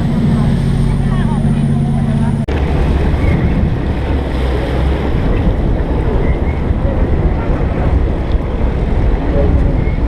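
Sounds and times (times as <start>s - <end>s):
boat engine drone: 0.0s - 10.0s
rushing water: 0.0s - 10.0s
wind buffeting microphone: 0.0s - 10.0s.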